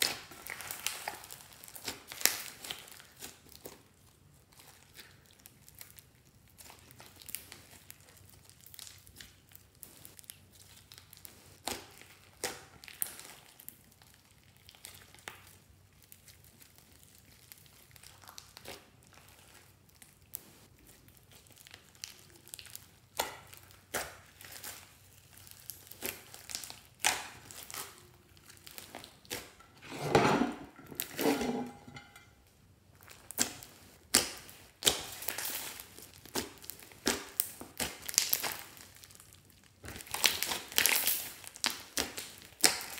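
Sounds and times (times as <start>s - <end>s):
slime squelching: 0.0s - 32.2s, 33.0s - 42.9s.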